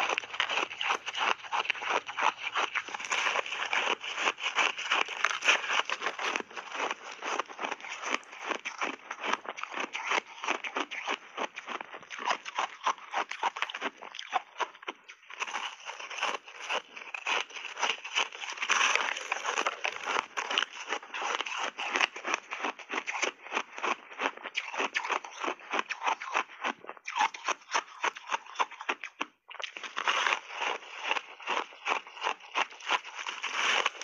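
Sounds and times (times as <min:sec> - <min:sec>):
ice crunching while chewed: 0:00.0 - 0:34.0.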